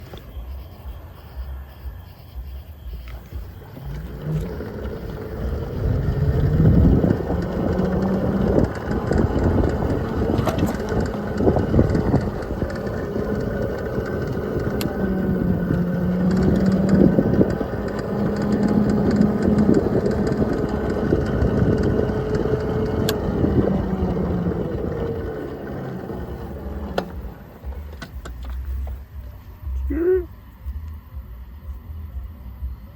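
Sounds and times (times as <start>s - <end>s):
motorcycle engine drone: 0.0s - 32.9s
wind and road noise: 0.0s - 32.9s.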